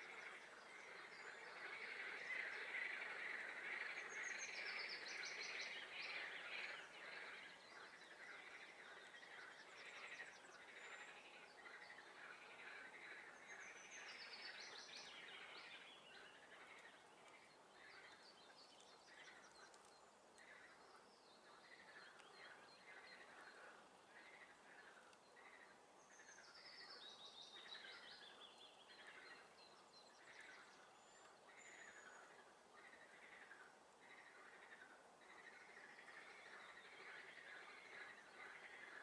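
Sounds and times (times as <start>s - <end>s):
songbirds singing: 0.0s - 39.0s.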